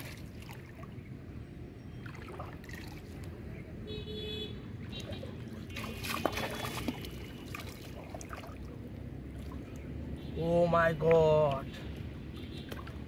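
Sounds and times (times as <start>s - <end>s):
shallow water splashing and trickling: 0.0s - 3.8s, 4.6s - 13.0s.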